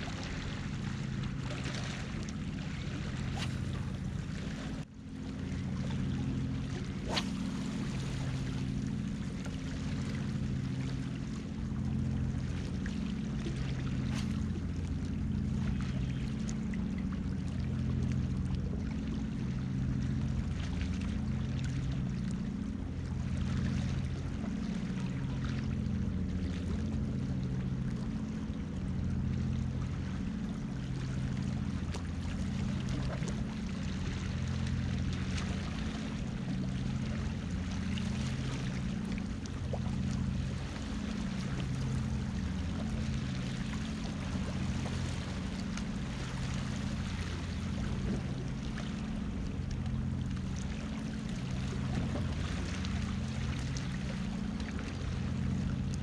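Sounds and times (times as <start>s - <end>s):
sea water washing: 0.0s - 20.6s, 21.2s - 56.0s
low bass line music: 0.0s - 56.0s.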